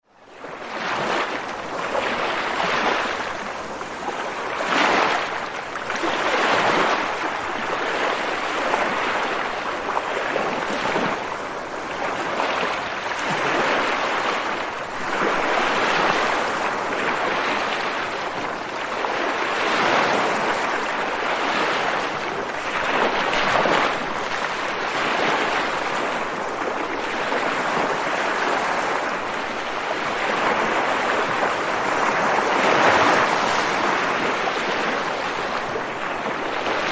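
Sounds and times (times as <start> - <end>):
ocean waves breaking: 0.3 - 36.9.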